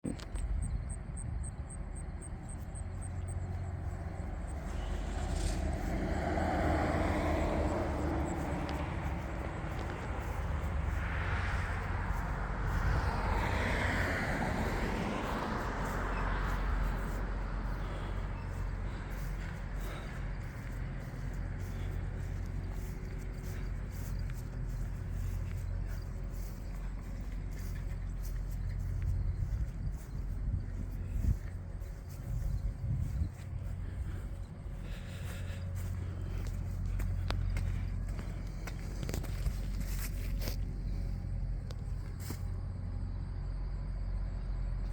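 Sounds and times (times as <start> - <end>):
steady low rumble: 0.0 - 44.9
cars passing: 1.8 - 44.9.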